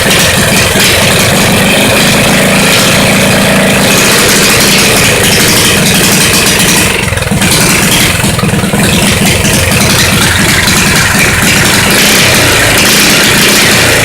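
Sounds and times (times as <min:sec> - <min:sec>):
small engine running loud: 0:00.0 - 0:14.0.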